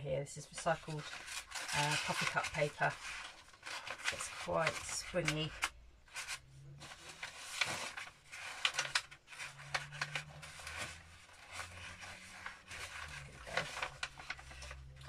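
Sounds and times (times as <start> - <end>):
stiff paper rustling and crackling: 0.4 - 15.0.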